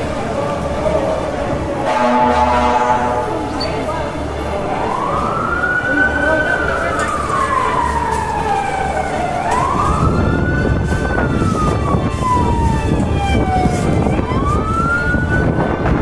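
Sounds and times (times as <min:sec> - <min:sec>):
road noise rumble: 0:00.0 - 0:16.0
emergency vehicle siren wailing: 0:01.8 - 0:16.0.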